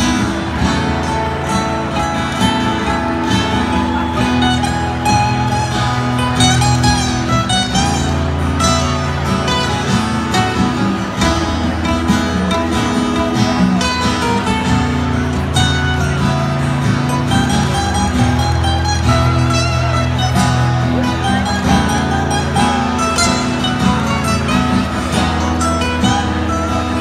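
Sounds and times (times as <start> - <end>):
acoustic guitars playing: 0.0 - 27.0.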